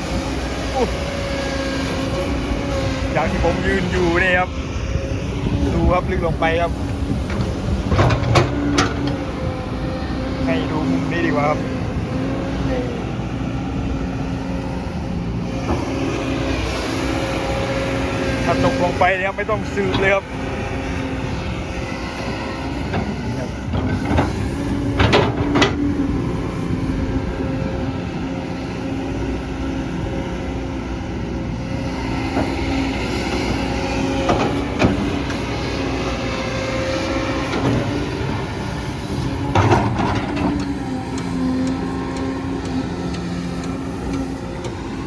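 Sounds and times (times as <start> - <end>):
excavator diesel engine: 0.0 - 45.0.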